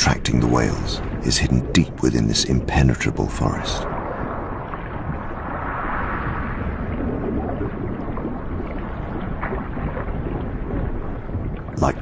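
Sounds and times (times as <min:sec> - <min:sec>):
rushing water underwater: 0:00.0 - 0:12.0.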